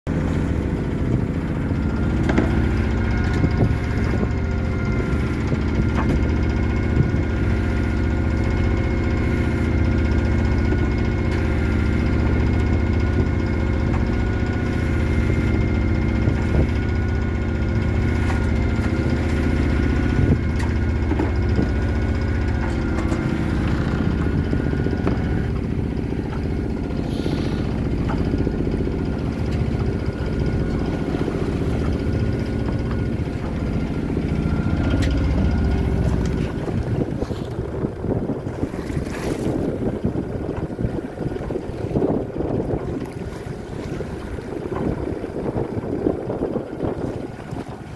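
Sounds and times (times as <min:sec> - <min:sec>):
boat engine droning: 0:00.1 - 0:47.9
engine whining tones: 0:00.2 - 0:41.1.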